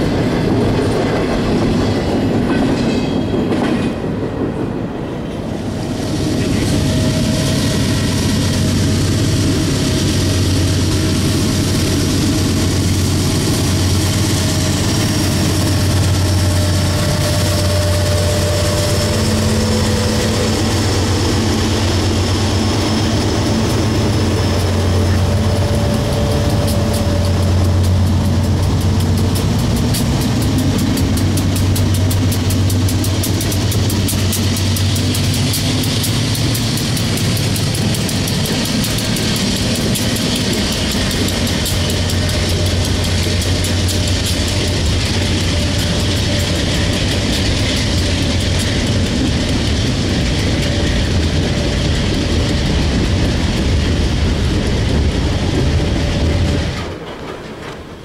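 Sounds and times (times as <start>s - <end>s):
diesel locomotive engines humming: 0.0s - 58.0s
freight wheels rumbling on rails: 0.0s - 58.0s.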